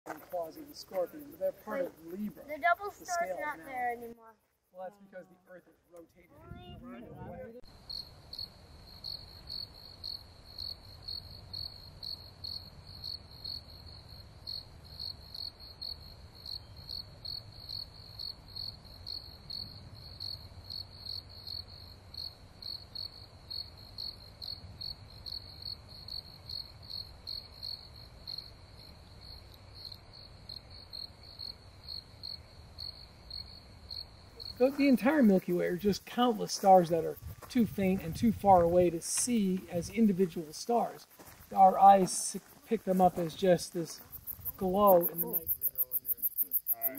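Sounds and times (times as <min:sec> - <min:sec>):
cricket chirping: 0:00.1 - 0:46.9.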